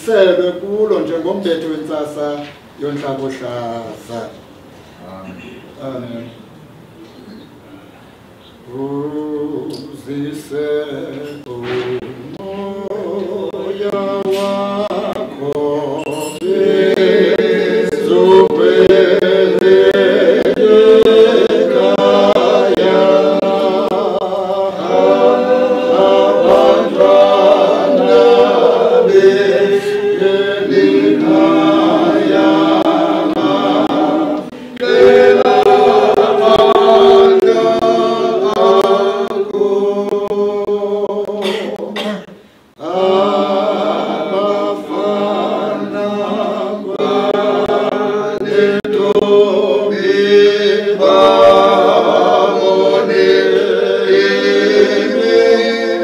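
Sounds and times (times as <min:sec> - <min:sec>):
congregation singing a hymn: 0:00.0 - 0:04.3, 0:08.6 - 0:56.0.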